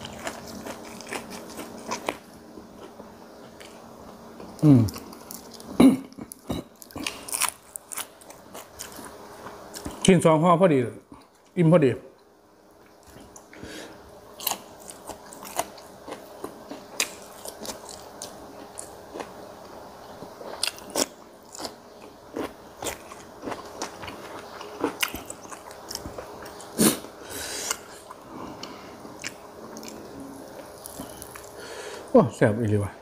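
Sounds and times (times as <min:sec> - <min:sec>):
chewing and crunching: 0:00.0 - 0:10.0, 0:14.4 - 0:31.6.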